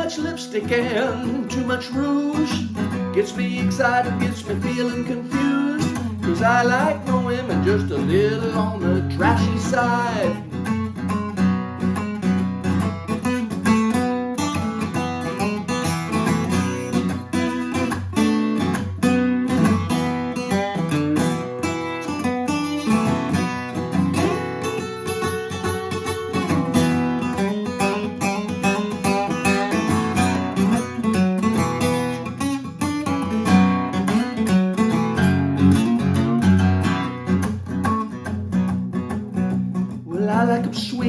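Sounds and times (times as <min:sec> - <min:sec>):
guitar-led country band music: 0:00.0 - 0:41.0.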